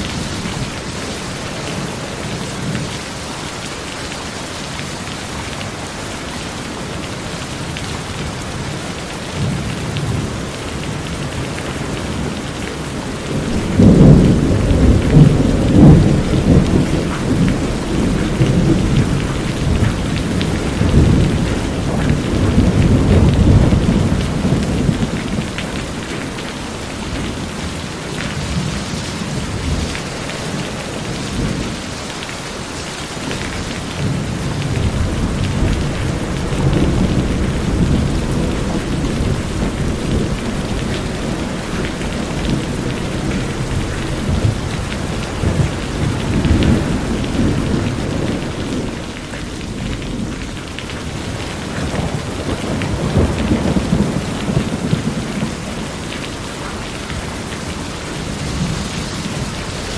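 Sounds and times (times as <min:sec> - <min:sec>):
rain on a metal roof: 0:00.0 - 0:59.9
water running off roof edge: 0:00.0 - 0:59.9
low rolling thunder: 0:08.1 - 0:31.8, 0:33.2 - 0:59.9.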